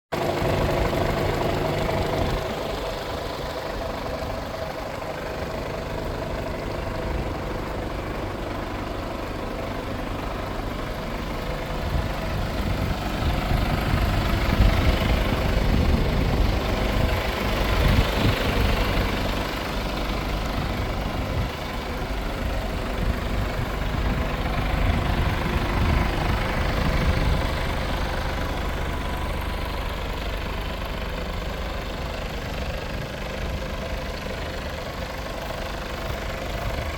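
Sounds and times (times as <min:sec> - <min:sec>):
truck diesel engine idling: 0:00.1 - 0:36.9.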